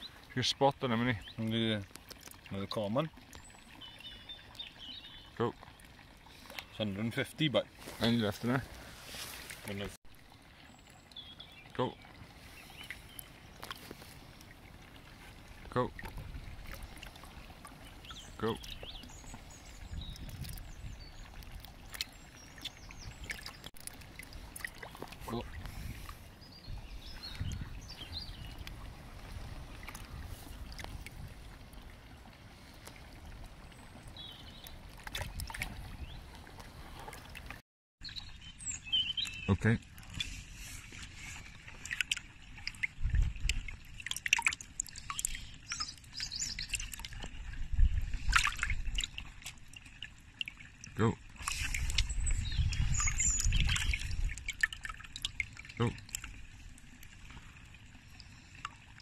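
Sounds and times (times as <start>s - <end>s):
water splashing and dripping: 0.0s - 59.0s.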